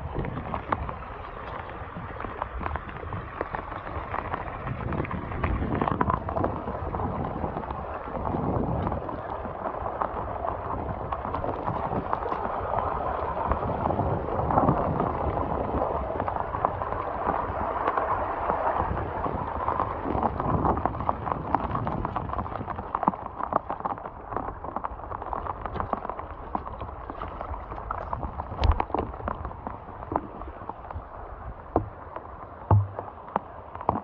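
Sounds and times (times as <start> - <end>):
water gushing from pipe: 0.0 - 34.0
water rushing over rocks: 0.0 - 34.0.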